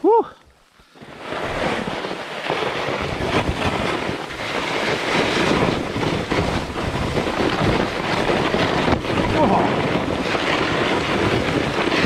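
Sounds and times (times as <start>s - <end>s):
skis scraping over hard snow: 0.5s - 12.0s.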